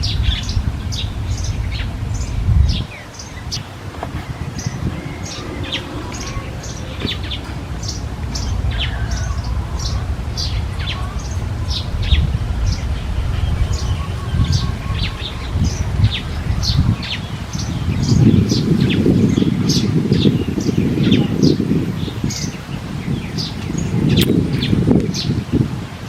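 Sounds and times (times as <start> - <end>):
steady low rumble: 0.0 - 22.1
small birds chirping: 0.0 - 25.7.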